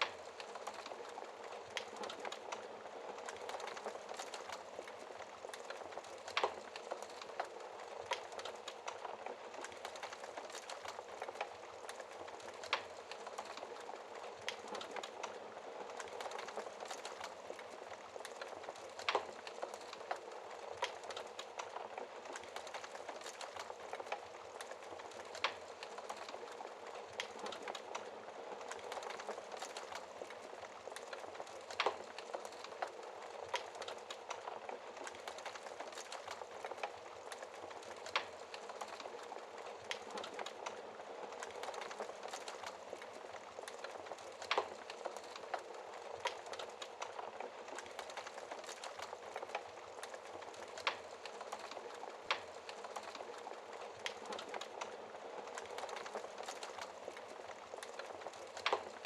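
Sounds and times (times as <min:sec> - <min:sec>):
small crackles: 0:00.0 - 0:59.0.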